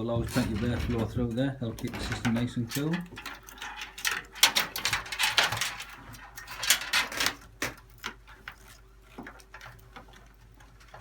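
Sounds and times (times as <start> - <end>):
computer parts clicking and rattling: 0.0 - 11.0.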